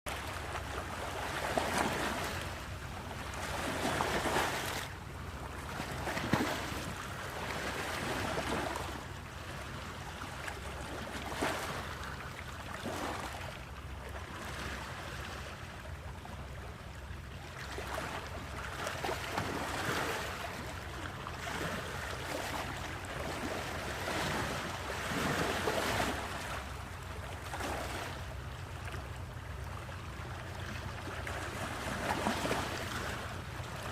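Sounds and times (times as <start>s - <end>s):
sea waves breaking: 0.1s - 33.9s.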